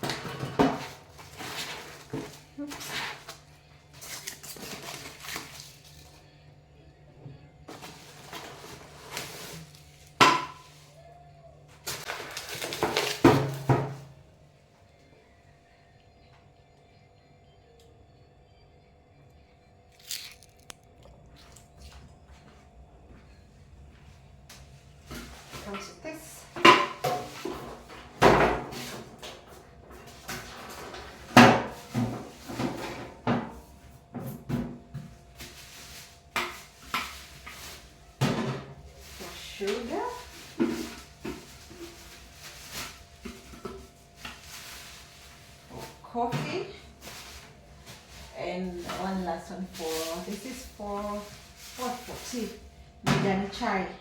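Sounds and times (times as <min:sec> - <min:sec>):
rustling and shuffling: 0:00.0 - 0:06.4, 0:07.7 - 0:11.0, 0:19.9 - 0:53.7.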